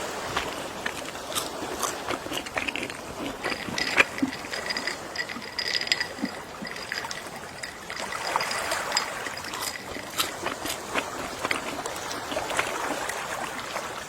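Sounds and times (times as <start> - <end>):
sea waves washing onto shore: 0.0 - 14.0
water crackling as it drains: 0.0 - 14.0.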